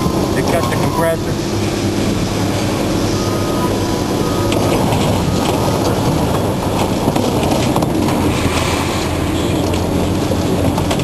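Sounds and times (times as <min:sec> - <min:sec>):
heavy diesel machine running: 0:00.0 - 0:11.0.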